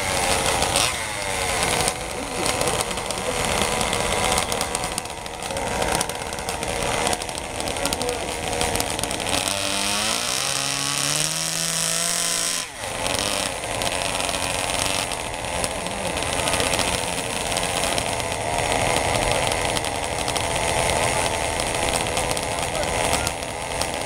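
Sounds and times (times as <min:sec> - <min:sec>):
small engines at high revs: 0:00.0 - 0:24.0.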